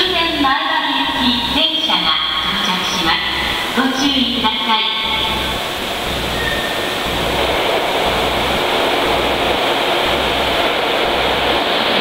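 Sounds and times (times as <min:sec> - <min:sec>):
train rushing rumble in tunnel: 0:00.0 - 0:12.0
low pulsing throb: 0:01.0 - 0:12.0.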